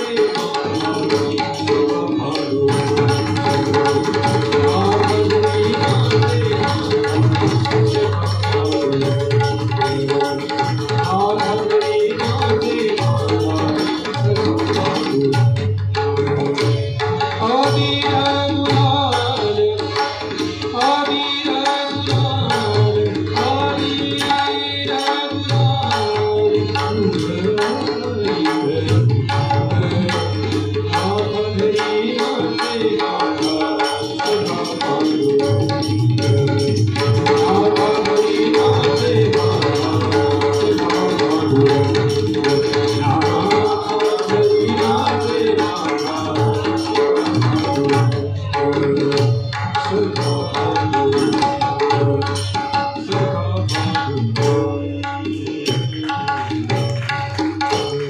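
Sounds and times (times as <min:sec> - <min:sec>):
hand drums fast rhythm: 0:00.0 - 0:58.0.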